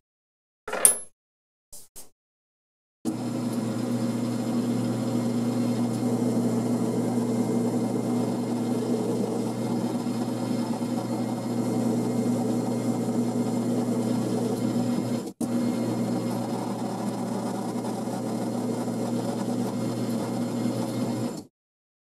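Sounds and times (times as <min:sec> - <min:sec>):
metal lathe humming: 0:03.1 - 0:21.5.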